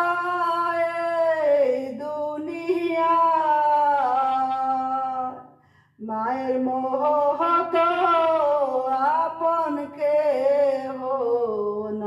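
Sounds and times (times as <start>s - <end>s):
woman singing unaccompanied: 0.0s - 5.4s, 6.0s - 12.0s.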